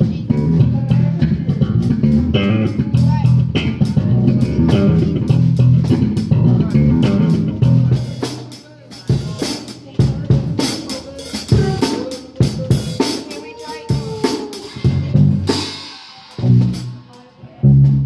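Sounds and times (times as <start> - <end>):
drum kit being hit: 0.0 - 18.0.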